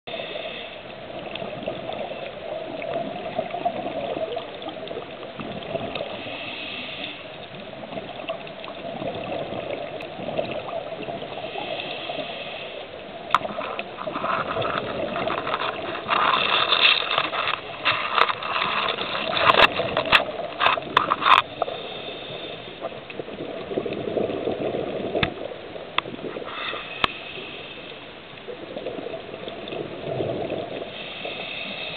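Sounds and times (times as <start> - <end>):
rushing water: 0.1 - 31.9.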